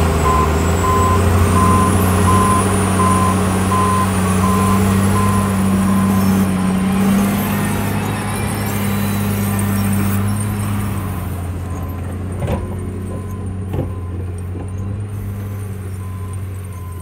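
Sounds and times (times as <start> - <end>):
wheel loader diesel engine: 0.0 - 17.0.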